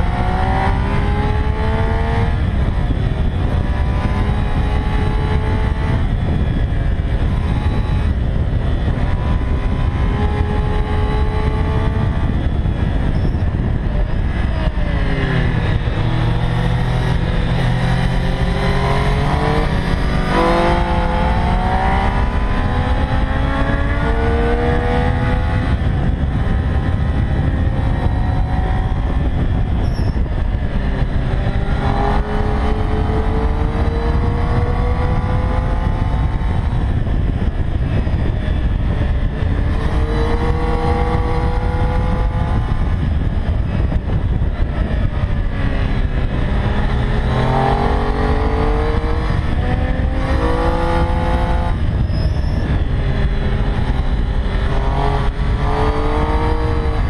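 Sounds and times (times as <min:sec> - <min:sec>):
motorcycle engine revving: 0:00.0 - 0:57.0
wind rush on camera: 0:00.0 - 0:57.0.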